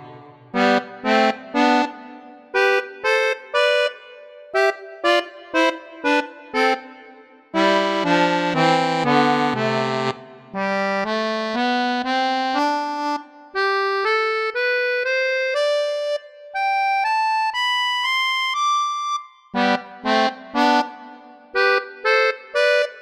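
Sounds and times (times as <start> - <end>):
accordion playing chords and scales: 0.0 - 23.0.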